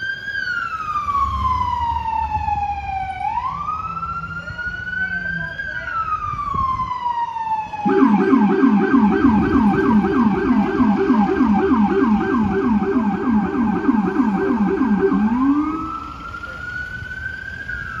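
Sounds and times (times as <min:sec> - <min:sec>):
deeper pulsing siren tone: 0:00.0 - 0:18.0
electronic siren yelp and wail: 0:00.0 - 0:18.0.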